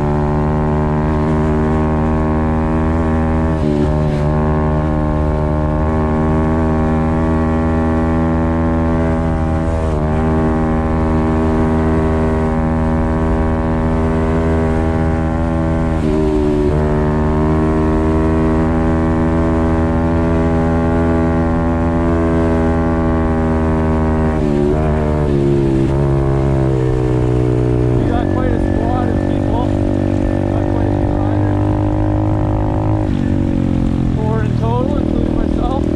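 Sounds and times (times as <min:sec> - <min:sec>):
motorcycle engine at high revs: 0:00.0 - 0:35.9.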